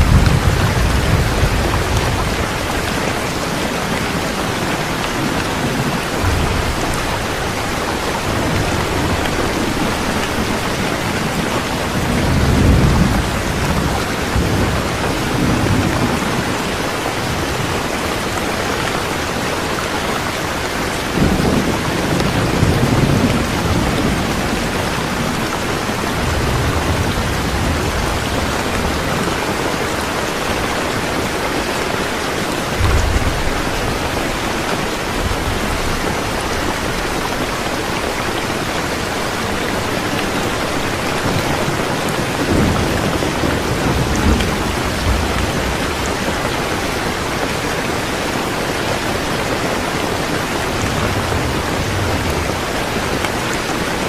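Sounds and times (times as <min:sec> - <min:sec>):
heavy rain falling: 0:00.0 - 0:54.0
thunder rumbling: 0:00.0 - 0:54.0.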